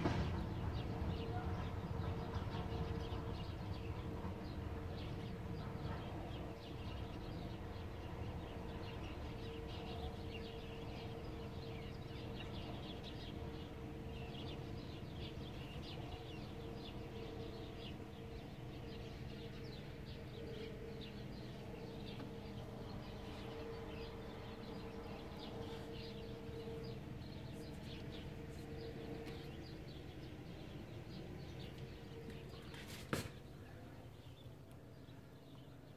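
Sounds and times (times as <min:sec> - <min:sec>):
birds chirping: 0:00.0 - 0:35.9
low distant hum: 0:00.0 - 0:35.9.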